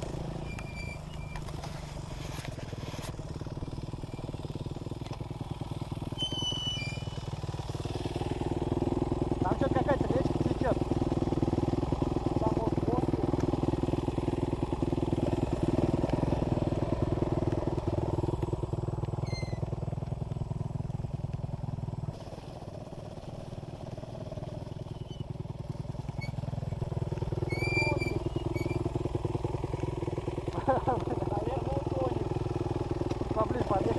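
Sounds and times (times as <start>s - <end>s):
dirt bike engine at low revs: 0.0s - 33.9s.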